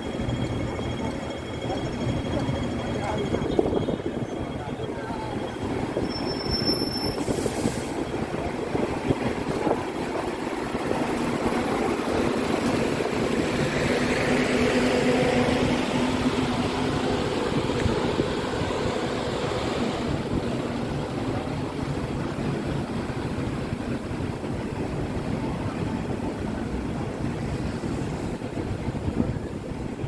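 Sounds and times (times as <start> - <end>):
metro train rumbling: 0.0 - 30.0.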